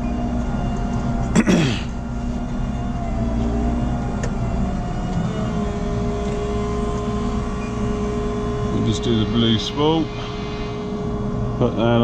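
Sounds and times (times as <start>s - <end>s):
diesel engine idling: 0.0s - 12.0s
steady whine: 0.0s - 12.0s.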